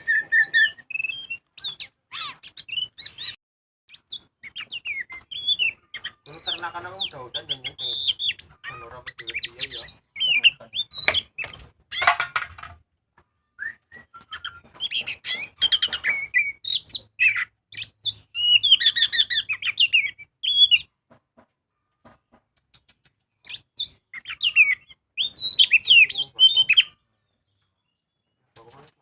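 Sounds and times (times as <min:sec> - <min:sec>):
bird singing whistles and trills: 0:00.0 - 0:11.6, 0:13.6 - 0:20.9, 0:23.4 - 0:28.4.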